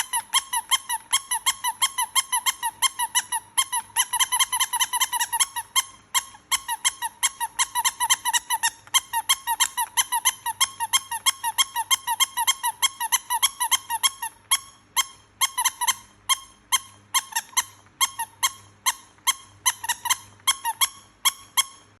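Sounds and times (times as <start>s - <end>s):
toy squeaking: 0.0s - 22.0s.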